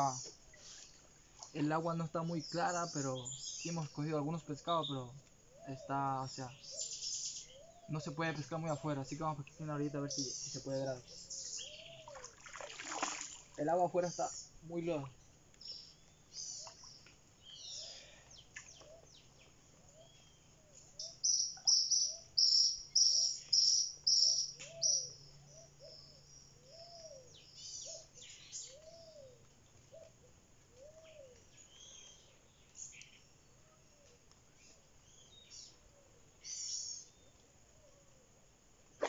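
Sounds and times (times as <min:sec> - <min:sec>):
bird chirps: 0:00.0 - 0:12.4, 0:14.0 - 0:30.2, 0:30.8 - 0:35.8, 0:36.4 - 0:37.4
low rising and falling bird call: 0:02.2 - 0:12.4, 0:14.0 - 0:38.2.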